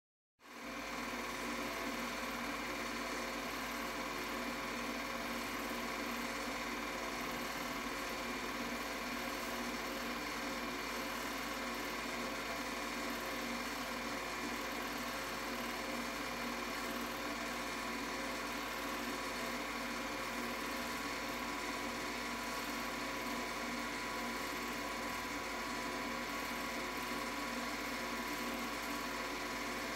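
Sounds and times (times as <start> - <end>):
film projector running: 0.4 - 29.9.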